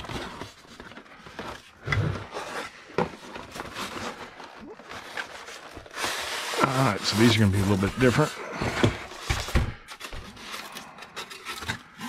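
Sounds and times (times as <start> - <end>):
cardboard and paper rustling: 0.0 - 12.0.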